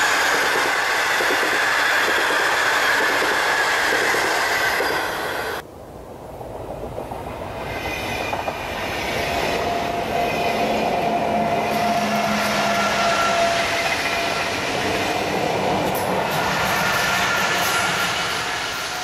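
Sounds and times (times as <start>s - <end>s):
train wheels rolling on rails: 0.0s - 19.0s
train whine: 0.0s - 19.0s.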